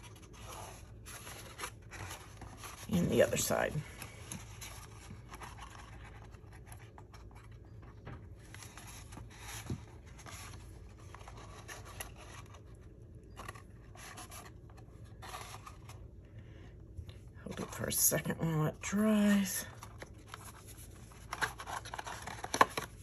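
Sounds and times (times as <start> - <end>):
cardstock scraping and rustling: 0.0 - 16.1, 19.7 - 23.0.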